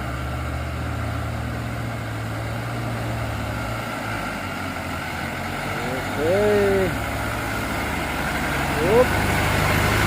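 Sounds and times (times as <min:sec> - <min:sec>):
truck diesel engine droning: 0:00.0 - 0:10.0.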